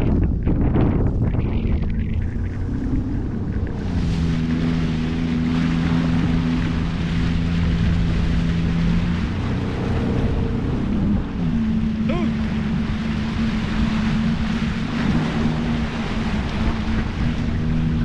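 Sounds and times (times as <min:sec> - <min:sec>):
jet ski engine running: 0:00.0 - 0:18.0
rushing water and wind: 0:00.0 - 0:18.0.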